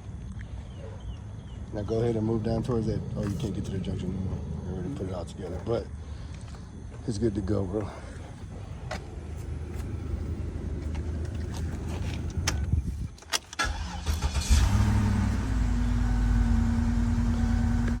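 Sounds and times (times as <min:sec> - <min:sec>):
car engine cranking and idling: 0:01.8 - 0:06.6, 0:07.5 - 0:18.0.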